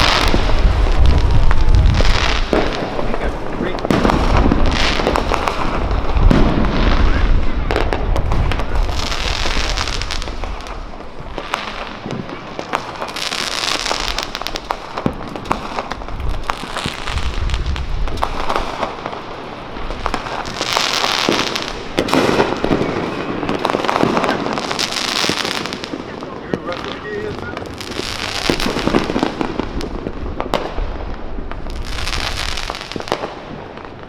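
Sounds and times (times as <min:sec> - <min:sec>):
fireworks pops and cracks: 0:00.0 - 0:34.0
hissing crackle bursts: 0:00.0 - 0:34.0.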